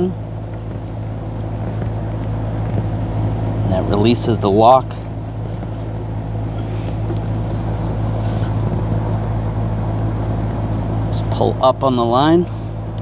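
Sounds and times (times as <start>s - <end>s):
steady low droning hum: 0.0s - 13.0s.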